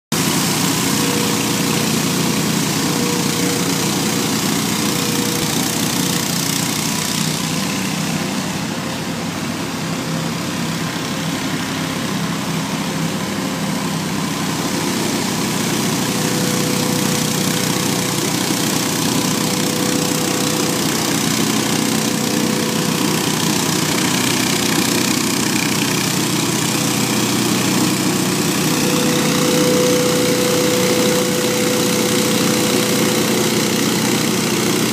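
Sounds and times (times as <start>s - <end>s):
leaf blower running: 0.1s - 34.9s.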